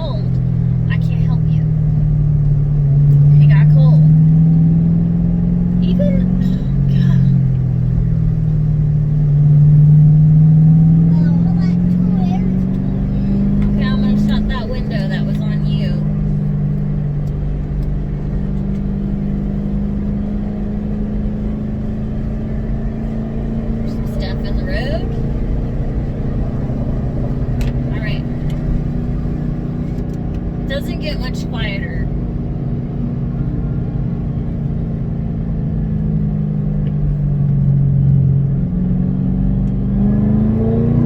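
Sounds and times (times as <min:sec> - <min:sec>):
engine and exhaust drone: 0:00.0 - 0:41.0
road rumble: 0:00.0 - 0:41.0.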